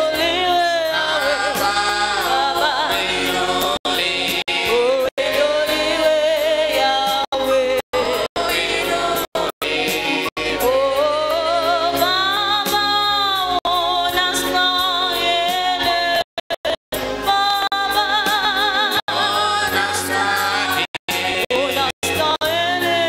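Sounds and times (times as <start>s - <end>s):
musical backing: 0.0s - 23.0s.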